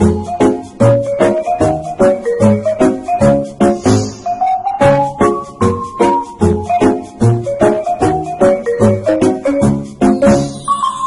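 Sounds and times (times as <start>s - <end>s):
bouncy background music: 0.0s - 11.0s.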